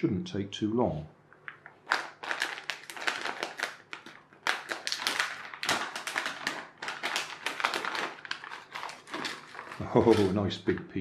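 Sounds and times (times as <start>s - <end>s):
plastic pouch crinkling: 1.5s - 10.8s.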